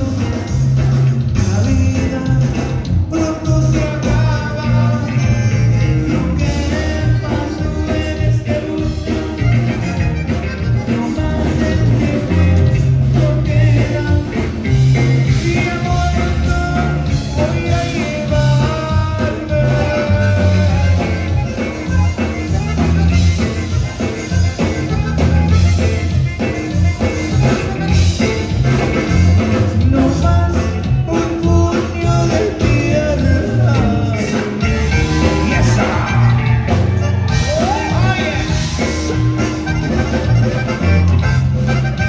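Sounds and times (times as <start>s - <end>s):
accordion: 0.0s - 42.0s
drum kit beat: 0.0s - 42.0s
electric bass line: 0.0s - 42.0s
electric guitar: 0.0s - 42.0s.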